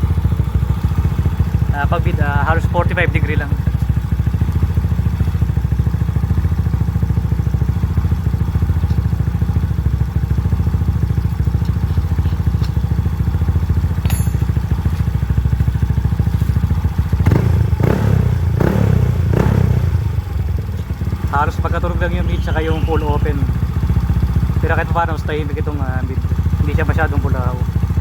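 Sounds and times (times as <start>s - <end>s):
scooter engine idling: 0.0s - 28.0s.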